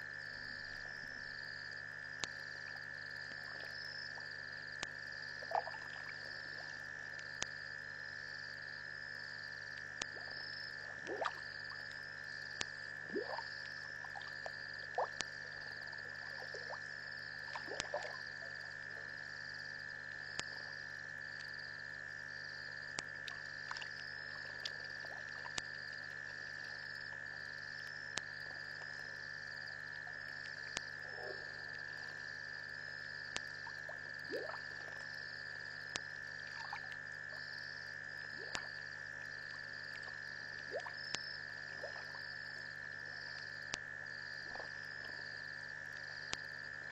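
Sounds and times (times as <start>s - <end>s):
high insect drone: 0.0s - 46.9s
short low frog calls: 2.2s - 19.6s, 22.4s - 46.9s.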